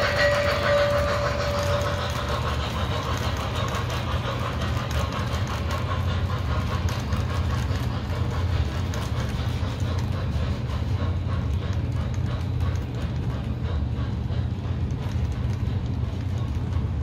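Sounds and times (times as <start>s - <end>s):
model train wheels rumbling: 0.0s - 17.0s
wheels clicking over rail joints: 0.0s - 17.0s.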